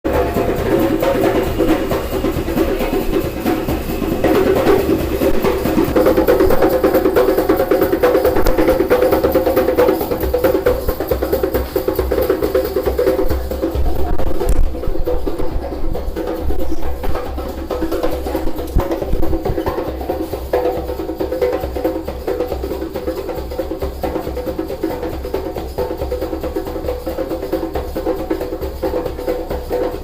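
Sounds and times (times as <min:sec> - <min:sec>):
fast hand drumming: 0:00.0 - 0:30.0.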